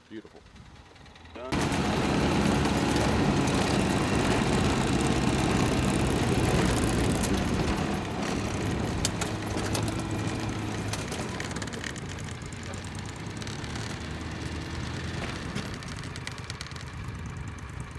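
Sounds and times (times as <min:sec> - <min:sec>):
utility vehicle engine running: 0:00.0 - 0:17.9
sharp clicks and rattles: 0:01.4 - 0:17.9.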